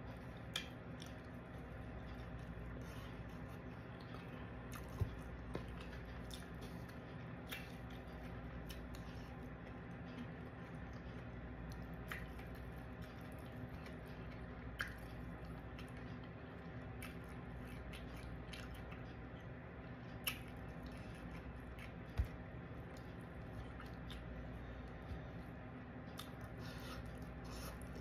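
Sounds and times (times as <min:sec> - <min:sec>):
chewing with wet mouth sounds: 0:00.0 - 0:28.0
steady low hum: 0:00.0 - 0:28.0.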